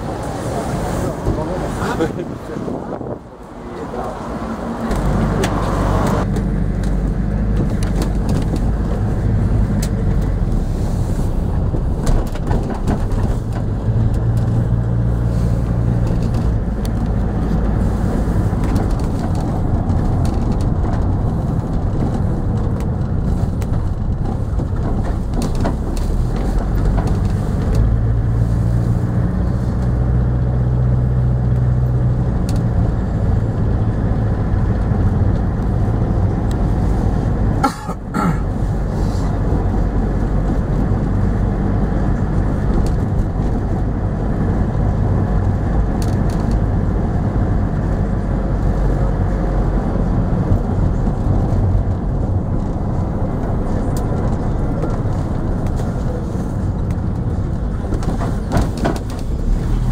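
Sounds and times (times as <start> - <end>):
bus engine drone and road noise: 0.0 - 59.9.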